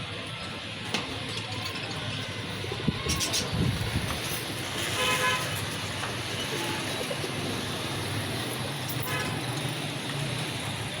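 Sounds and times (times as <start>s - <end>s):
road traffic engine hum: 0.0s - 11.0s.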